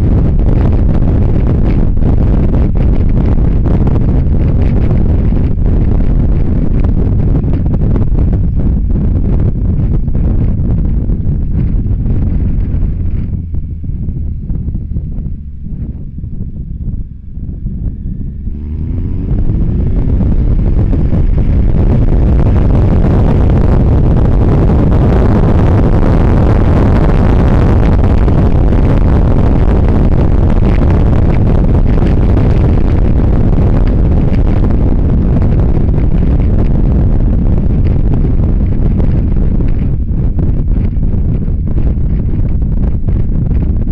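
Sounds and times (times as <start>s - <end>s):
motorcycle engine accelerating: 0.0s - 43.9s
wind buffeting microphone: 0.0s - 43.9s.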